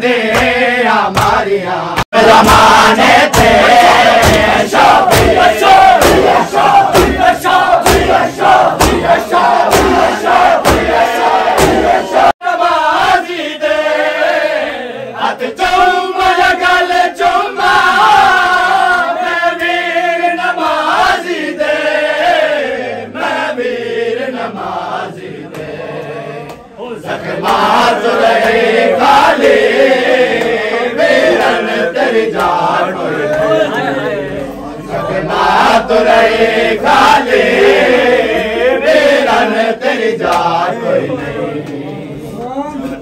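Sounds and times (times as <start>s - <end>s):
men chanting together: 0.0s - 43.0s.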